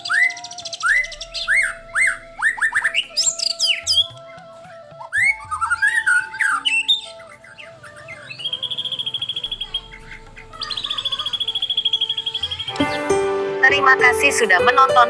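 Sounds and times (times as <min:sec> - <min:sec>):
bird high trill: 0:00.0 - 0:04.4, 0:05.0 - 0:14.8
bird whistling song: 0:00.0 - 0:13.3.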